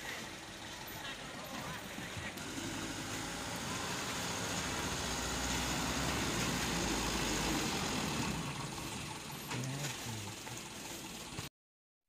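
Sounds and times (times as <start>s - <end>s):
diesel truck engine under load: 0.0s - 11.5s.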